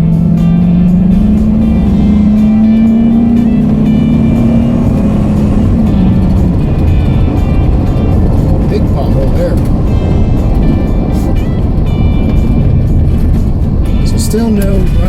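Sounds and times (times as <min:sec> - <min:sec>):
car engine drone: 0:00.0 - 0:15.0
tyres on the road: 0:00.0 - 0:15.0.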